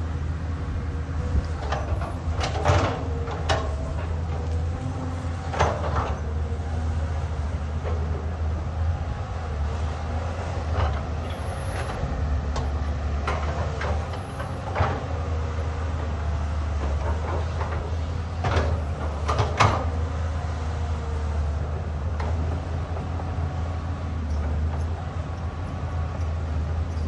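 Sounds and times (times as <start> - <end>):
diesel excavator engine running: 0.0 - 27.0.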